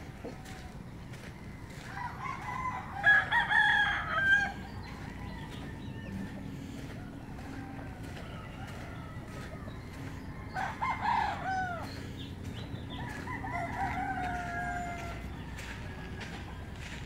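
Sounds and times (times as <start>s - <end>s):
roosters crowing: 0.0s - 17.0s.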